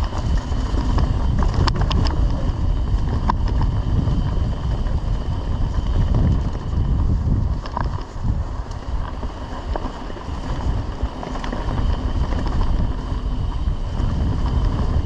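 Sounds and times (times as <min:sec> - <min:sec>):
bike clicks and rattles: 0:00.0 - 0:15.0
bike tyres on dirt: 0:00.0 - 0:15.0
wind rumbling on microphone: 0:00.0 - 0:15.0.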